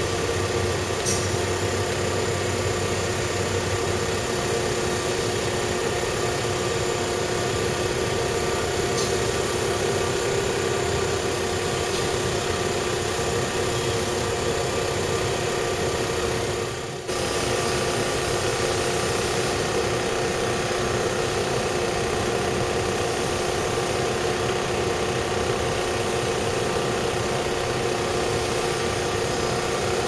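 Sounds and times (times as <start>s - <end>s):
air compressor running: 0.0s - 30.0s.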